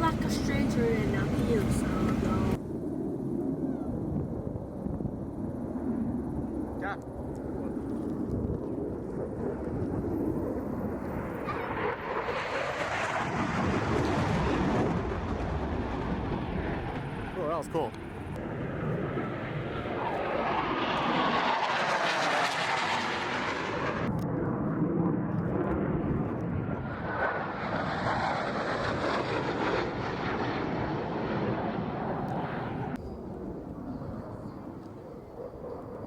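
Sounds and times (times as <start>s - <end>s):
jet aircraft flying overhead: 0.0s - 36.0s.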